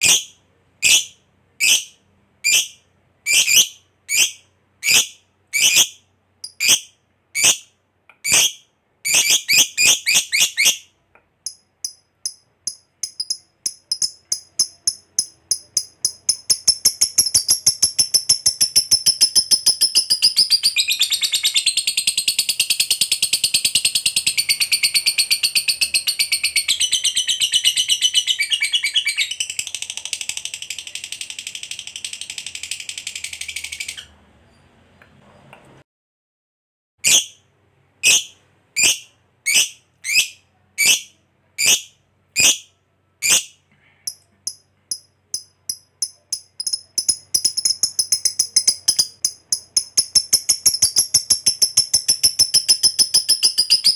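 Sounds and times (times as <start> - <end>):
bird chirping and chattering: 0.0 - 34.1, 37.0 - 37.4, 38.0 - 53.9.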